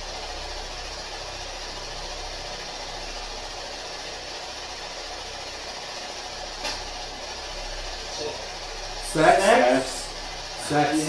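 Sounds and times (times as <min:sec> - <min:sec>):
static hiss: 0:00.0 - 0:11.0.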